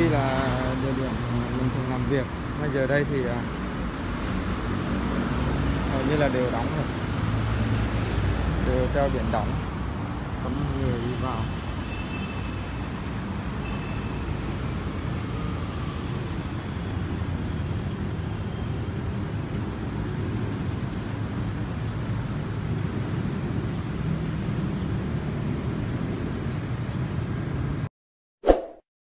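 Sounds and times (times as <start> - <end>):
road traffic rumble: 0.0 - 27.9.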